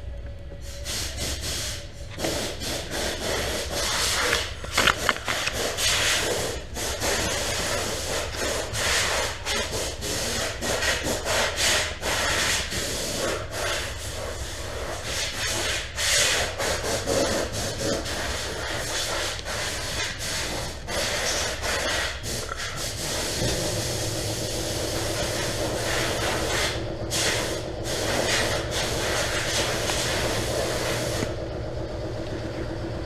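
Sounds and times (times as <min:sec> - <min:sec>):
steady hum with hiss: 0:00.0 - 0:33.0
rubbing and scraping: 0:01.2 - 0:23.6, 0:25.0 - 0:31.3.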